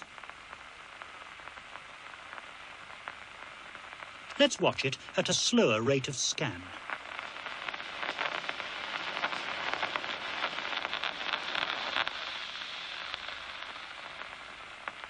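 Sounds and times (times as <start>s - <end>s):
crackle of clicks over hiss: 0.0s - 15.0s.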